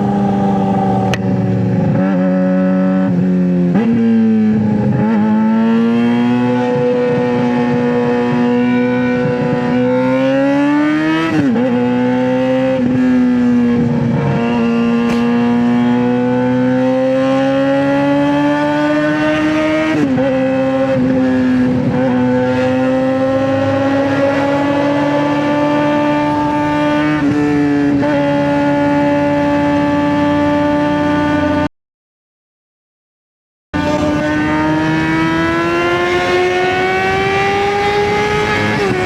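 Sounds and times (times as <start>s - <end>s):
motorcycle engine revving: 0.0s - 31.7s, 33.8s - 39.0s.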